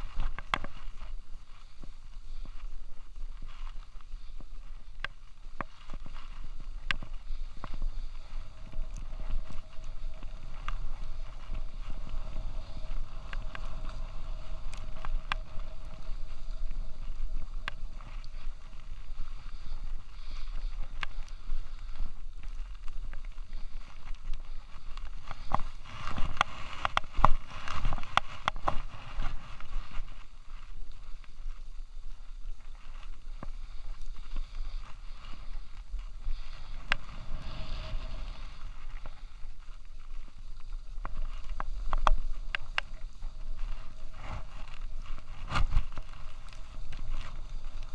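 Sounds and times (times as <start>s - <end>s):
skis scraping over snow: 0.0s - 47.9s
wind rumble on microphone: 0.0s - 47.9s.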